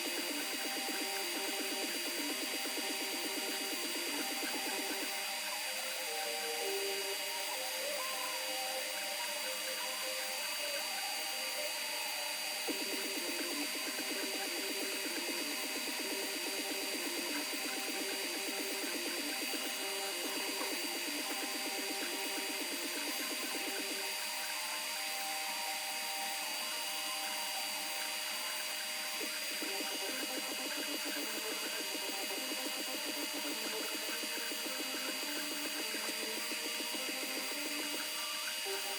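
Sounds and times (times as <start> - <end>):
constant high whine: 0.0 - 38.9.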